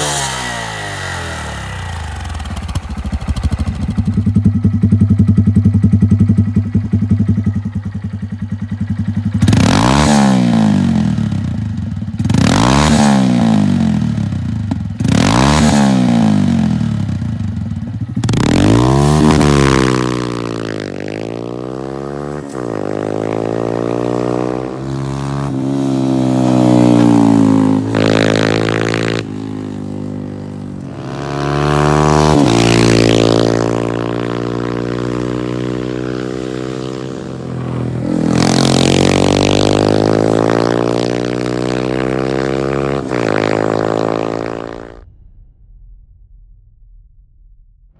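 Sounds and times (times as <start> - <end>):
motorcycle engine revving: 0.0 - 45.1.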